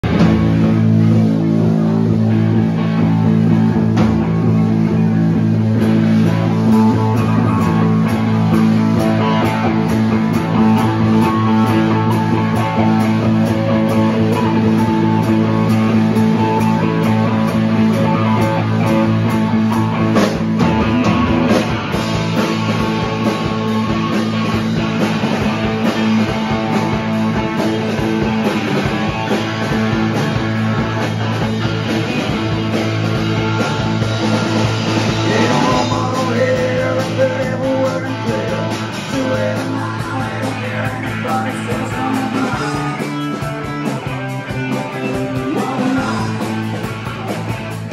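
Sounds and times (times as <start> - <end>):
drum kit: 0.0 - 47.9
electric bass: 0.0 - 47.9
electric guitars: 0.0 - 47.9.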